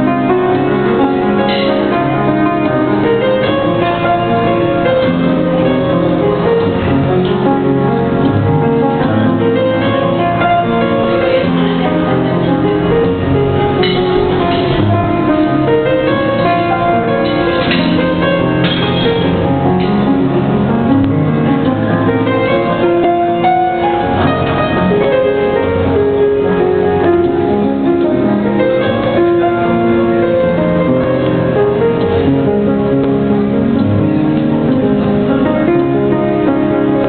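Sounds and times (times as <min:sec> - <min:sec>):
piano melody over chords: 0:00.0 - 0:37.0.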